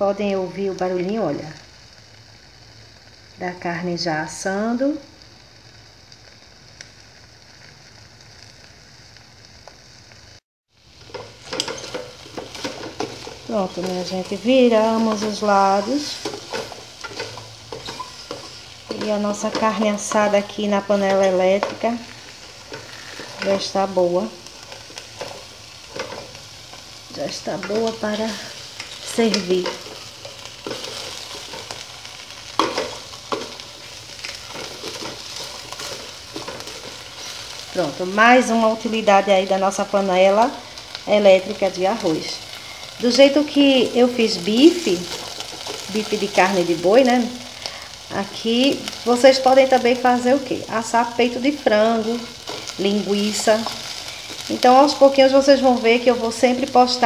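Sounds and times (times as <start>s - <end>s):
steaks sizzling in a pot: 0.0s - 57.0s.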